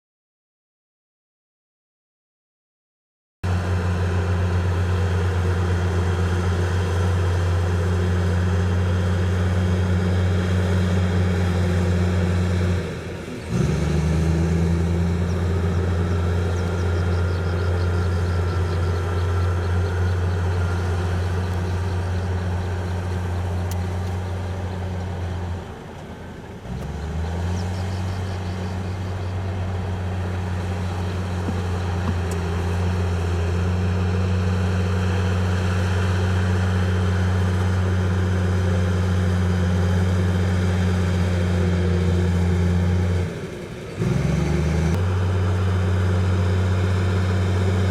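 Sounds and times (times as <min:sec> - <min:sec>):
heavy diesel engine droning: 0:03.4 - 0:47.9.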